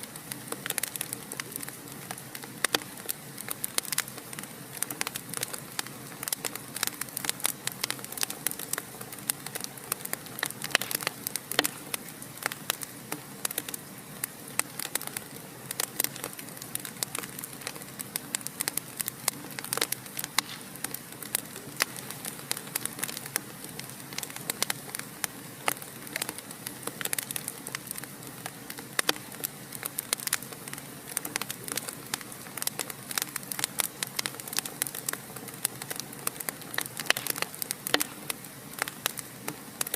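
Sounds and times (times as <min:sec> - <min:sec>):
fire crackling and popping: 0:00.0 - 0:39.9
steady fire hiss: 0:00.0 - 0:39.9.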